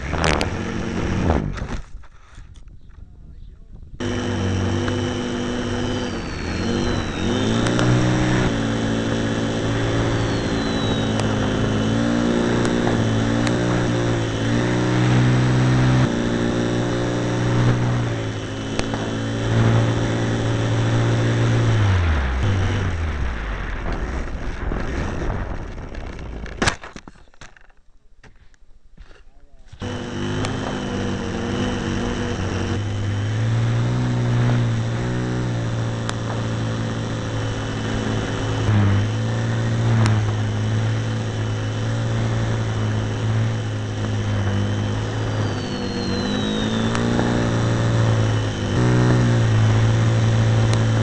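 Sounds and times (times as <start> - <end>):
model airplane motor and propeller: 0.0 - 3.1, 4.0 - 27.8, 29.6 - 51.0.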